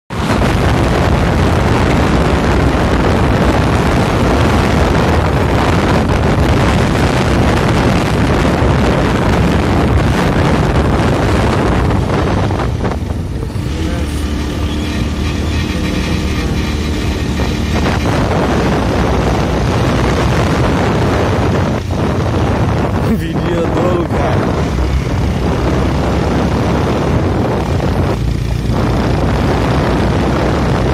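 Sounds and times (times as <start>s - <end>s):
motorcycle engine running: 0.1s - 30.9s
wind rushing over microphone: 0.1s - 30.9s.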